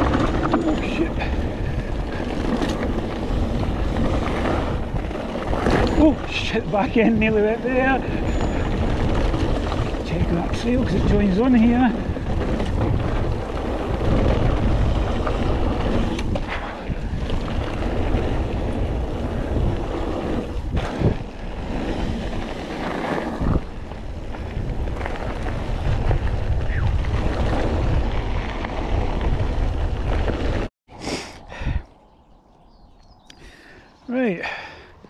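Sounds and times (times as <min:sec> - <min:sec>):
bike knocking and rattling: 0:00.0 - 0:30.7
tyres rumbling on gravel: 0:00.0 - 0:30.7
wind buffeting microphone: 0:00.0 - 0:30.7, 0:31.4 - 0:35.0.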